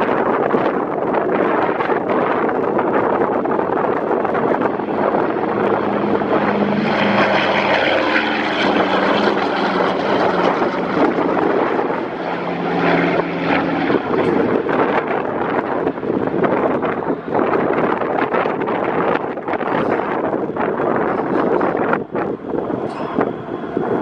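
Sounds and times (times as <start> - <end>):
propeller plane engines droning: 0.0 - 24.0
wind buffeting microphone: 0.0 - 24.0.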